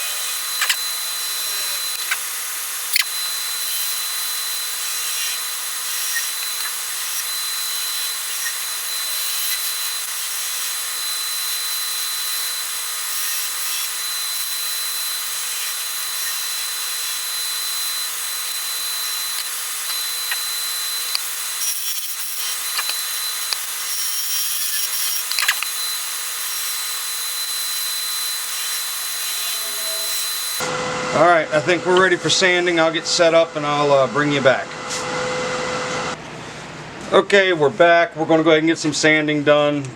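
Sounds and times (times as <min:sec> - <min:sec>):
wood lathe turning tool cutting: 0:00.0 - 0:36.2.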